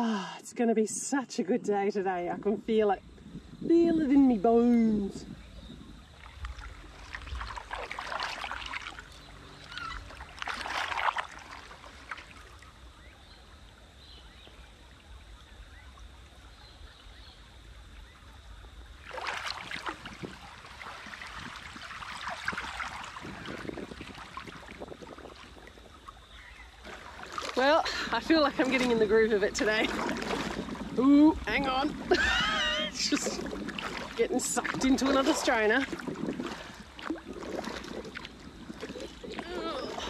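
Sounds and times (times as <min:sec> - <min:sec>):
canoe paddle strokes in water: 0:04.4 - 0:40.0.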